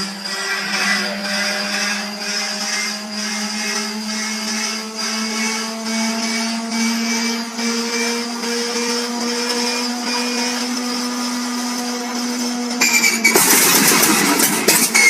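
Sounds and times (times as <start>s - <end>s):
turbine engine whining: 0.0s - 15.0s.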